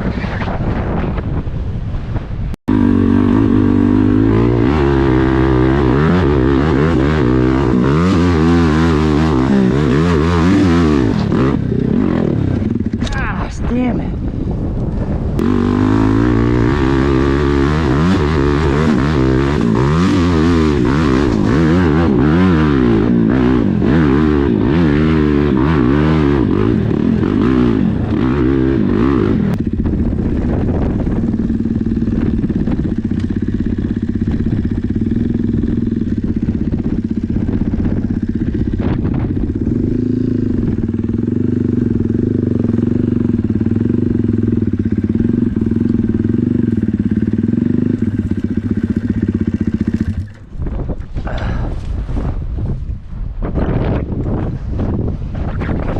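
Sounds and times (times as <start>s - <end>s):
dirt bike engine revving: 2.7s - 50.5s.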